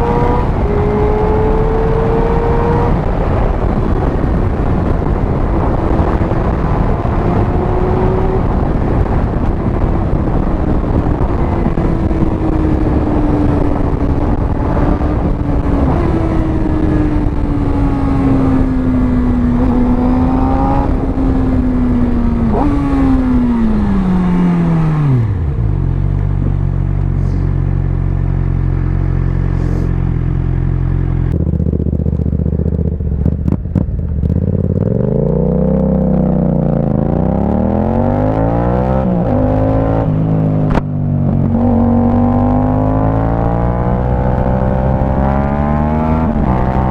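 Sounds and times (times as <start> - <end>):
wind rushing: 0.0 - 27.5, 31.4 - 46.9
motorcycle engine cruising and idling: 0.0 - 46.9.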